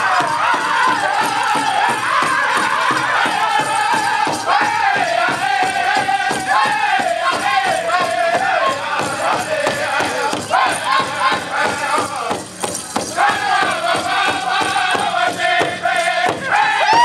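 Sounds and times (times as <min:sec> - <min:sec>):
high-pitched group singing: 0:00.0 - 0:12.4, 0:13.0 - 0:17.0
big drum beat: 0:00.0 - 0:17.0.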